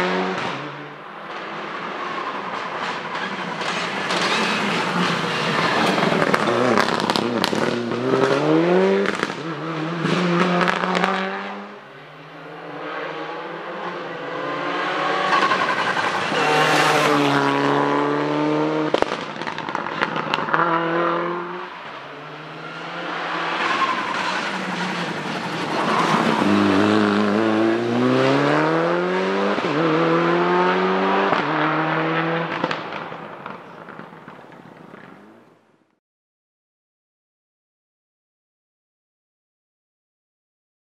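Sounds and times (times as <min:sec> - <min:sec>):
rally car engine revving: 0:00.0 - 0:32.8.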